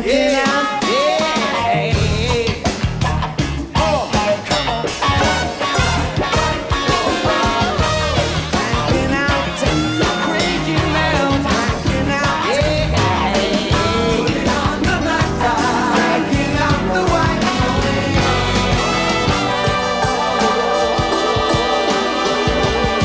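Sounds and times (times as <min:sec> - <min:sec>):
live rock band: 0:00.0 - 0:23.0
drum beat: 0:00.1 - 0:23.0.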